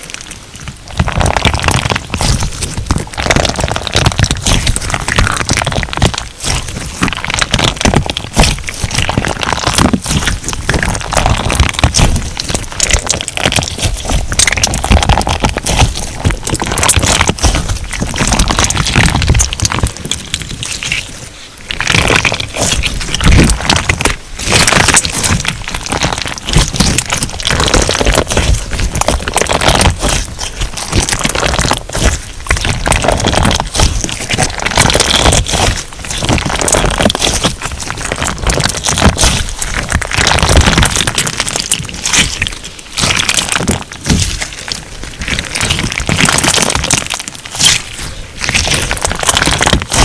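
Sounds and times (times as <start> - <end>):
crunchy slime crackling and popping: 0.0 - 50.0.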